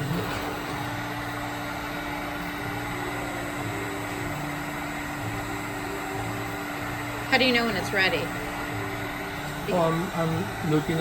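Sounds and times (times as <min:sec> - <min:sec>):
heat gun blower hum: 0:00.0 - 0:11.0.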